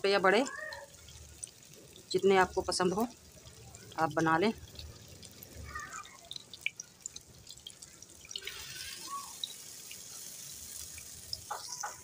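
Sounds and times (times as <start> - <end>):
patties sizzling in oil: 0.0 - 12.0.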